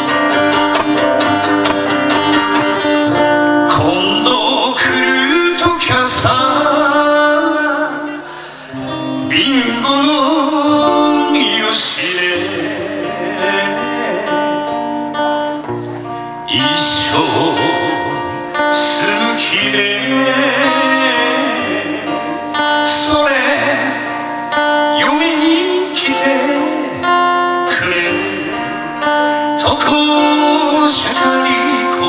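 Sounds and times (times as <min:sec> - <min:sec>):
acoustic guitar strumming: 0:00.0 - 0:32.0
man singing: 0:00.0 - 0:32.0.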